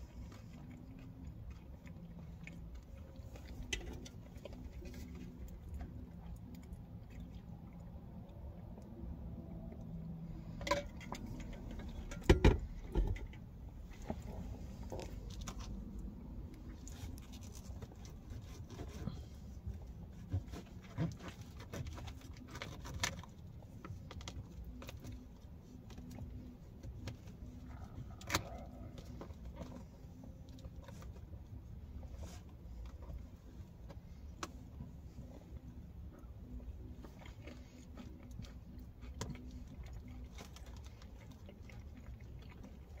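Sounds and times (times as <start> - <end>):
low hum inside car: 0.0 - 43.0.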